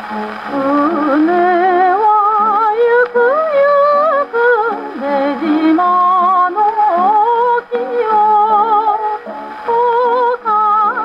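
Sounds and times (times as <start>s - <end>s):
orchestra on gramophone record: 0.0s - 11.0s.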